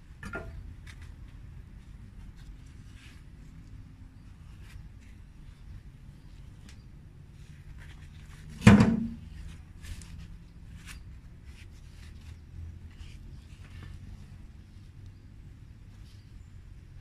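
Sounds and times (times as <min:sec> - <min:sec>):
faint rustles and clicks: 0:00.0 - 0:17.0.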